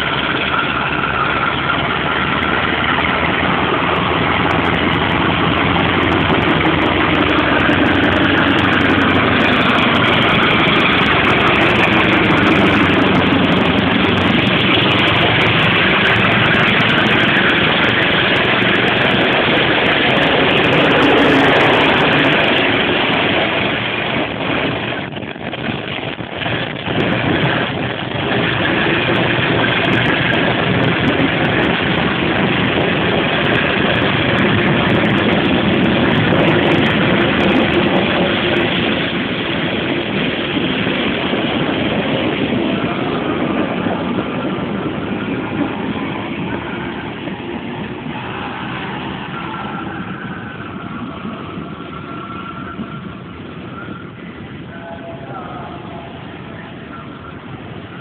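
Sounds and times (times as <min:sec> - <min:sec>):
passenger train running: 0:00.0 - 0:58.0.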